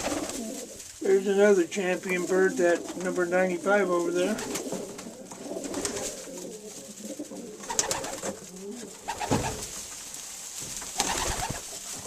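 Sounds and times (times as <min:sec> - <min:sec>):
pigeons cooing: 0:00.0 - 0:09.8, 0:10.9 - 0:12.0.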